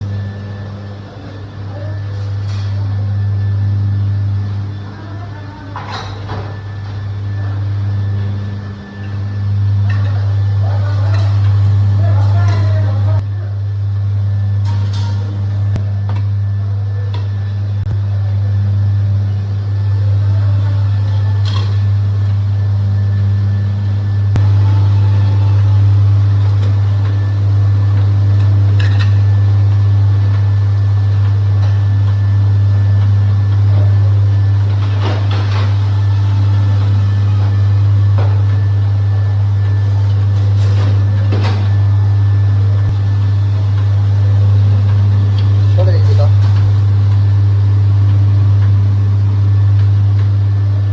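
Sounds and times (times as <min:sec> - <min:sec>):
dishwasher motor hum: 0:00.0 - 0:50.9.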